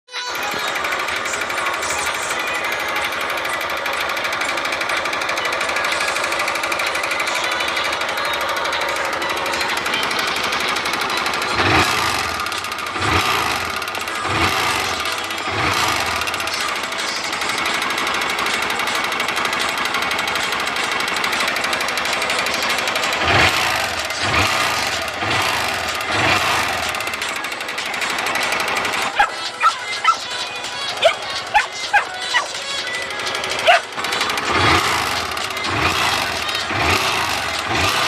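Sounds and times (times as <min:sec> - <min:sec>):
motorcycle engine revving with rattle: 0:00.1 - 0:38.0
engine knock crackle: 0:00.3 - 0:38.0.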